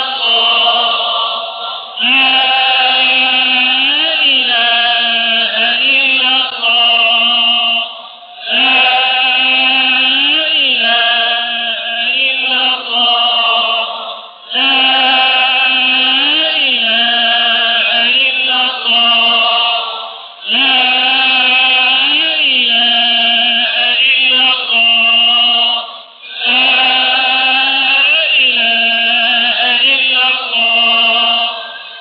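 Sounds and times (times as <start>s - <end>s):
person chanting: 0.0s - 32.0s.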